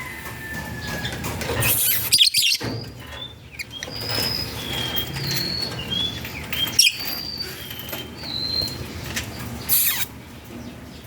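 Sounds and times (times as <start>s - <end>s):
lovebirds chirping: 0.8s - 11.0s.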